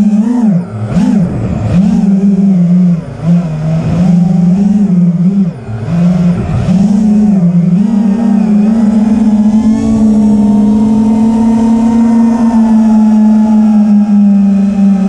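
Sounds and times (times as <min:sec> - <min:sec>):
loud motor drone: 0:00.0 - 0:15.0.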